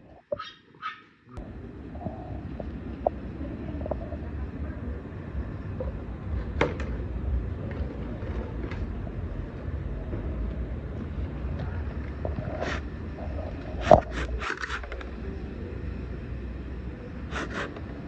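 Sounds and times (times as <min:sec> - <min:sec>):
wind rumbling on microphone: 0:01.4 - 0:18.0.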